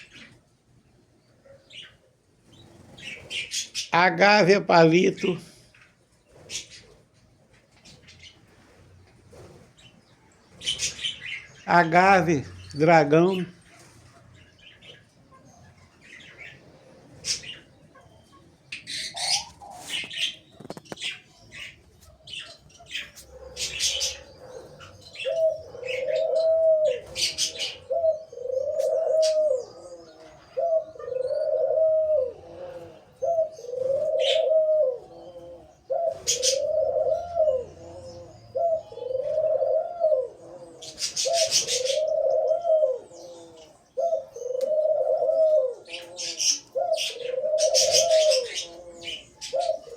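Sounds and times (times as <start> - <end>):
small birds chirping: 0.0 - 49.9
dove cooing: 1.3 - 5.5, 10.5 - 49.9.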